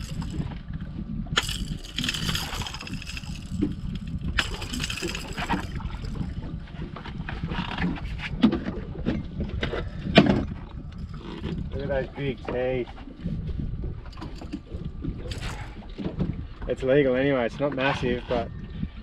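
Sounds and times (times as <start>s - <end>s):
low rumble of wind and sea: 0.0s - 19.0s.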